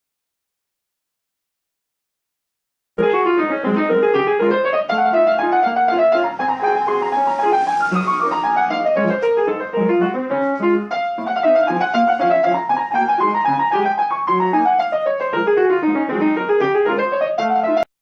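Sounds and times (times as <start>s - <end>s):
piano quick runs: 3.0s - 17.9s.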